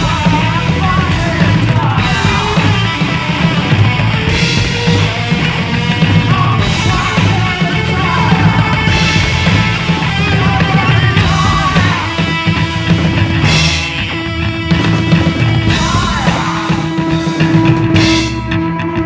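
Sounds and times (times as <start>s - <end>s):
rock band playing loudly: 0.0s - 19.0s.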